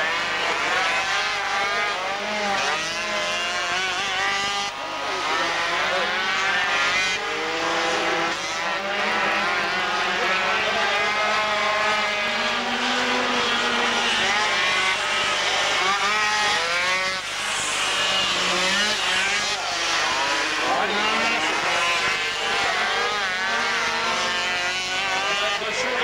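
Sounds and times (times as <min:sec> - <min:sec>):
high-pitched moped engines racing: 0:00.0 - 0:26.0.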